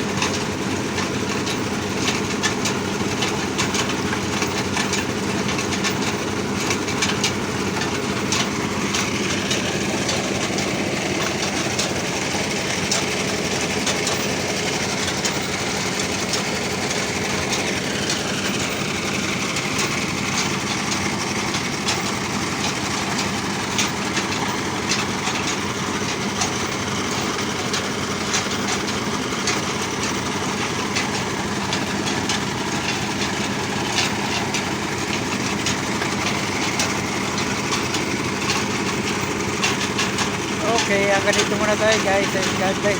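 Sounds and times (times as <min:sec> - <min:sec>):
drilling rig engine hum: 0:00.0 - 0:42.9.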